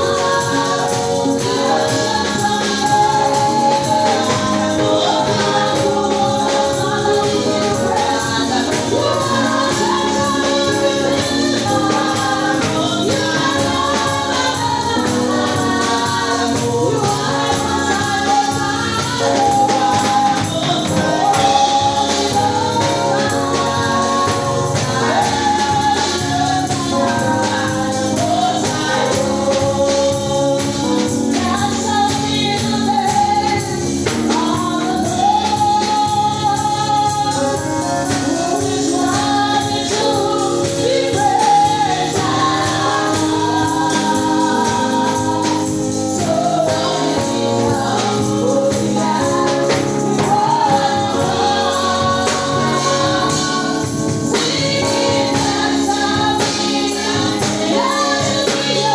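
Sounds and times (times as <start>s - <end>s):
band accompaniment: 0.0s - 58.9s
gospel choir singing: 0.0s - 58.9s
shaken tambourine: 0.0s - 58.9s.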